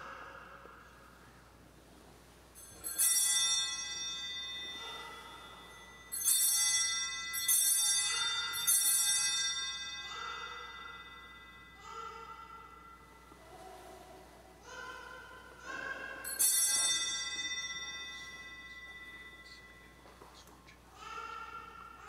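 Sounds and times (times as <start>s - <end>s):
altar bells ringing: 2.5s - 13.4s, 14.7s - 22.0s.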